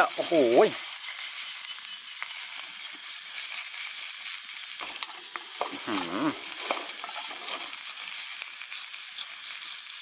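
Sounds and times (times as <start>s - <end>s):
food sizzling in hot oil: 0.0s - 10.0s
spatula scraping a pan: 0.3s - 10.0s.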